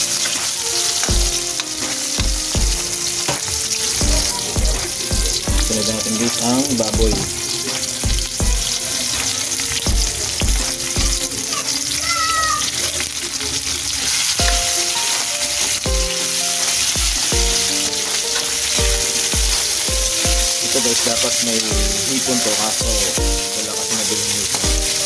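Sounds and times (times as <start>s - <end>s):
music with regular beat: 0.0s - 11.5s, 14.4s - 25.0s
meat sizzling in hot oil: 0.0s - 25.0s.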